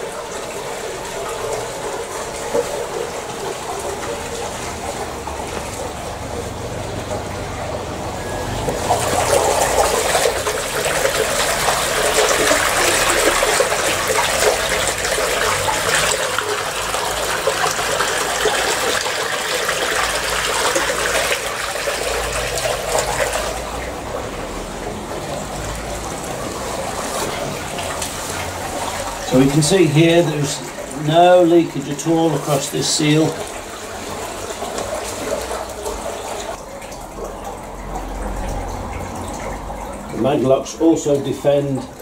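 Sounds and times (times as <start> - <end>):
water gushing from hose: 0.0 - 42.0.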